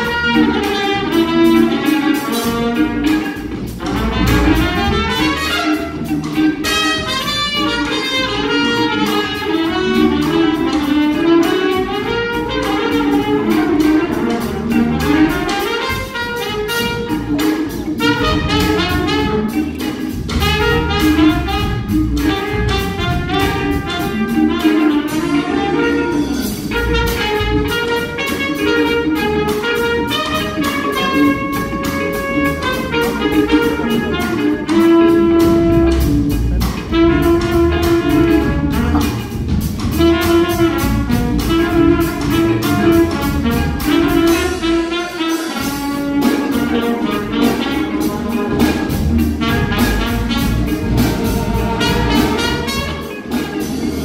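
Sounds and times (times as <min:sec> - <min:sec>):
saxophones: 0:00.0 - 0:54.0
steady beat: 0:00.0 - 0:54.0
trumpet: 0:00.0 - 0:54.0.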